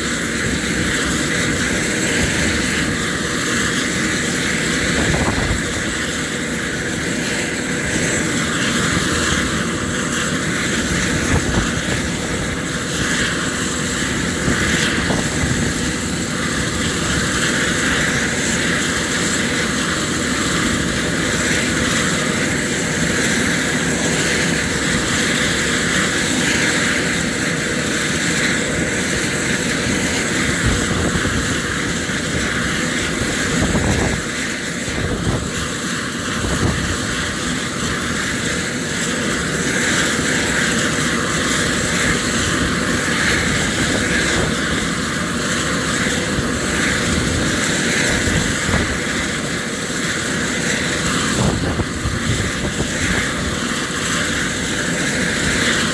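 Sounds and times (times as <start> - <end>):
helicopter engine and rotor running: 0.0 - 55.9.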